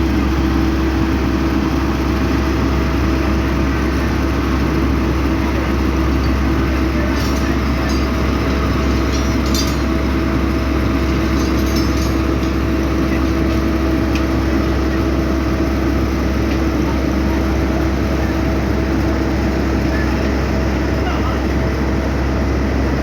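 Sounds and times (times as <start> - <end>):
diesel machinery engine hum: 0.0 - 23.0.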